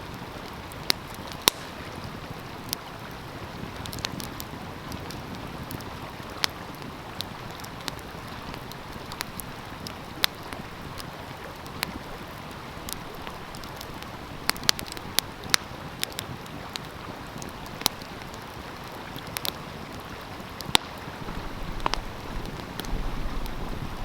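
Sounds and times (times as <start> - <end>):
stream rushing: 0.0 - 24.0
wind rumble on microphone: 0.0 - 24.0
wood fire crackling and popping: 0.0 - 24.0.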